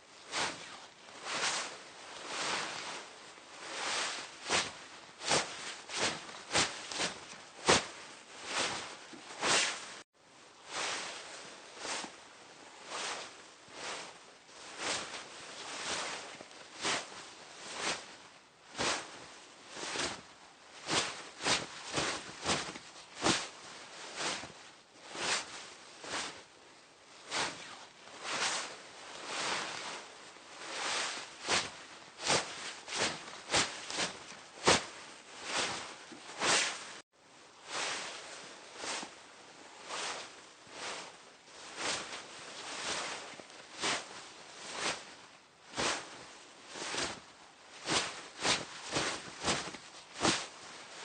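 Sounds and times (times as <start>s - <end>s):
fabric rustling and swishing: 0.0s - 51.0s.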